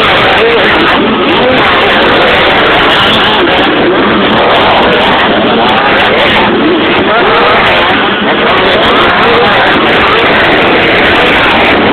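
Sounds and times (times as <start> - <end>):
motorcycle engines revving: 0.0 - 11.9.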